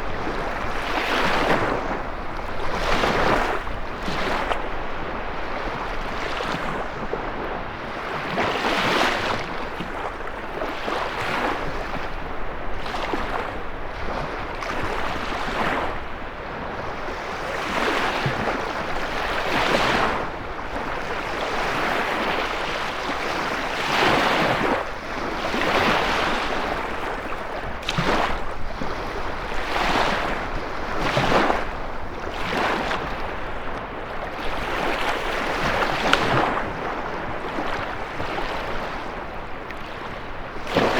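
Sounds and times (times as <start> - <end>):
steady wind: 0.0 - 40.9
waves breaking and washing in: 0.0 - 40.9.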